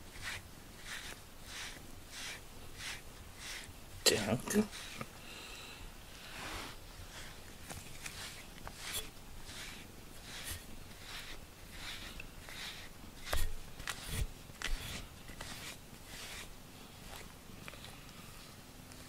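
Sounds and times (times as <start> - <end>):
brush swishing through fur: 0.0 - 5.2, 6.2 - 17.3.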